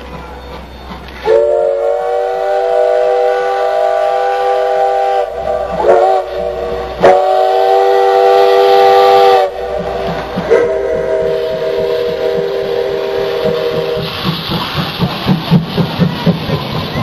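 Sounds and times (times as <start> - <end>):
hissing steam: 0.0 - 17.0
steam locomotive whistle blasts: 0.4 - 14.2.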